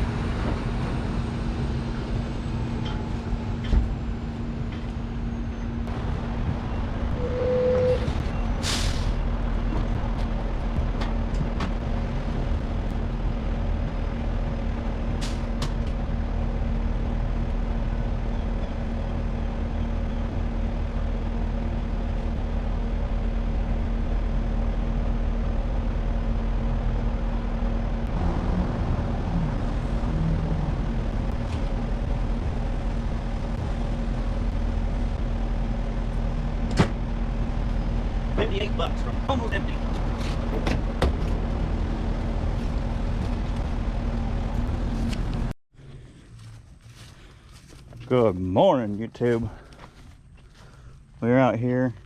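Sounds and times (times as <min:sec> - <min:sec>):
truck engine running: 0:08.1 - 0:51.8.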